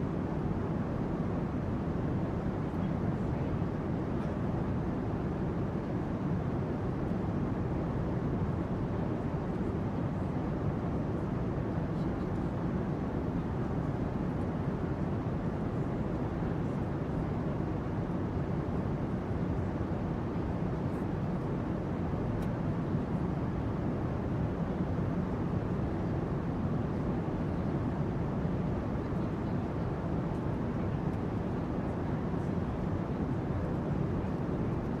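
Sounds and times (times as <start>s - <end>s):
airplane cabin noise: 0.0s - 35.0s.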